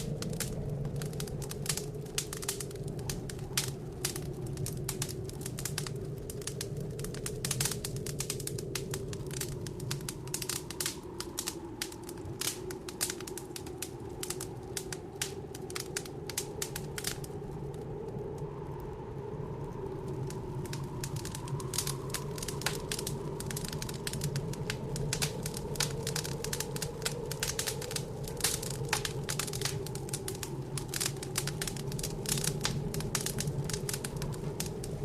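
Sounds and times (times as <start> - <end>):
blizzard wind howling: 0.0 - 35.0
wood fire crackling: 0.0 - 35.0.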